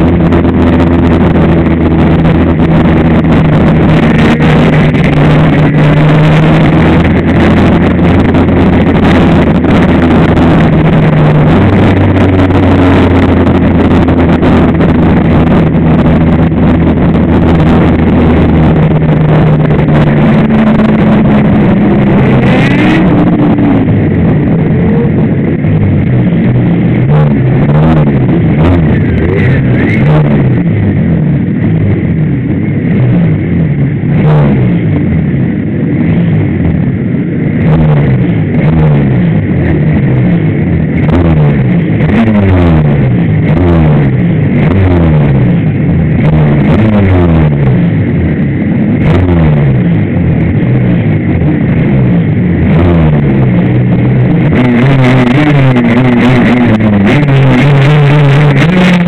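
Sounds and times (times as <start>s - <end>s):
motorcycle engine revving: 0.0s - 59.0s
racing motorcycle engines: 0.0s - 59.0s.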